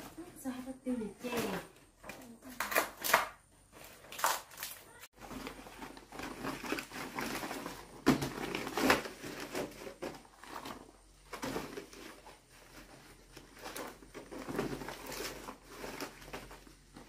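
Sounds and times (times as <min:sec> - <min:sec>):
leaves rustling and crinkling: 0:00.0 - 0:17.0.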